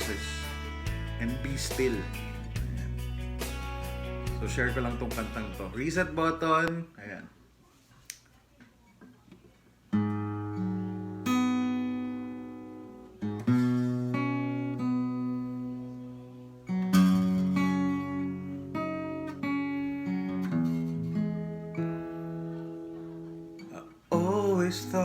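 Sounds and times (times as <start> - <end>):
guitar chords ringing: 0.0 - 6.7, 9.9 - 25.0.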